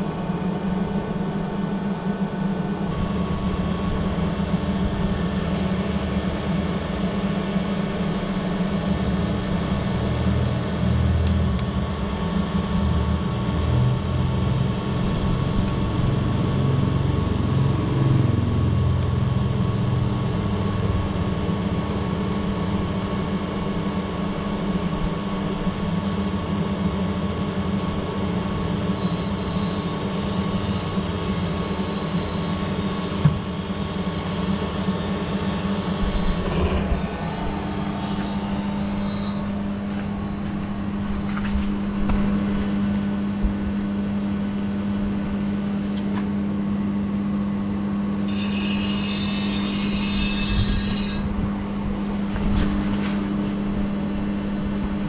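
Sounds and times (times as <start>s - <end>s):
machine hum with held tones: 0.0s - 55.0s.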